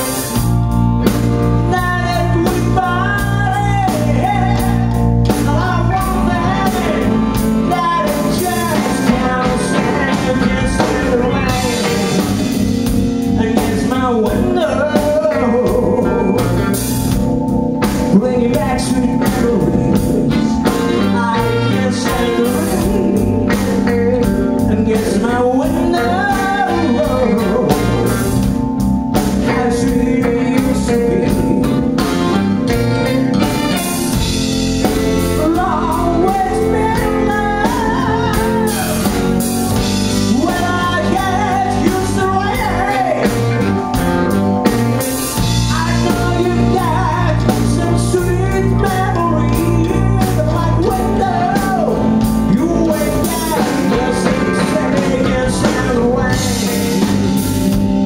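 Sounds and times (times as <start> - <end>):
drum kit: 0.0 - 58.0
electric bass: 0.0 - 58.0
electric guitar: 0.0 - 58.0
keyboard: 0.0 - 58.0
person singing: 1.1 - 44.1, 45.1 - 58.0.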